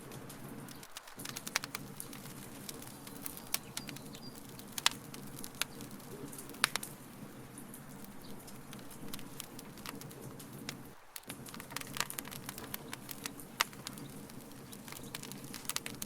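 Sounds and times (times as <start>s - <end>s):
low rustle of fire: 0.0s - 16.0s
wood fire crackling and popping: 0.0s - 16.0s.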